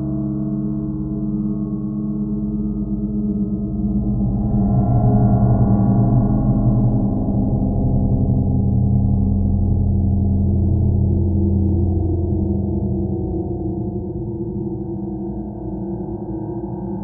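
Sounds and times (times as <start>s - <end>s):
underwater low drone: 0.0s - 17.0s.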